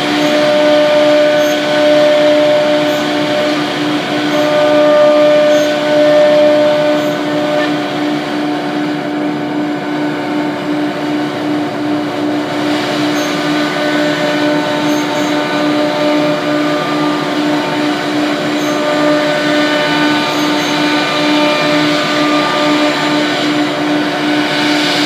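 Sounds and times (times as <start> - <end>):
router spindle whine: 0.0 - 25.0.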